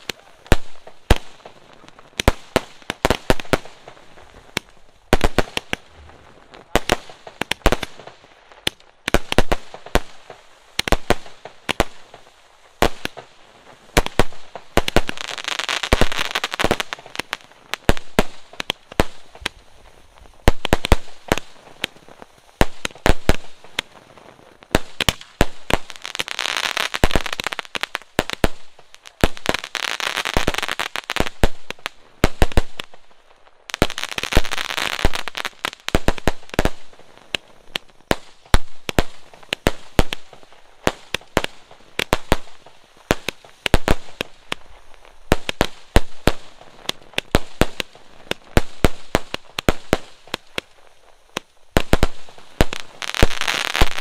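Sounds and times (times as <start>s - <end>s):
fireworks bangs and pops: 0.0s - 54.0s
hissing crackling firework fountain: 0.0s - 54.0s.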